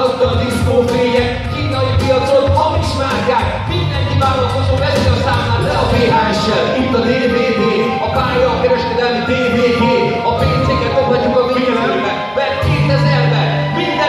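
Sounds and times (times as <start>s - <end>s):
hip-hop beat over speakers: 0.0s - 14.0s
man rapping: 0.0s - 14.0s.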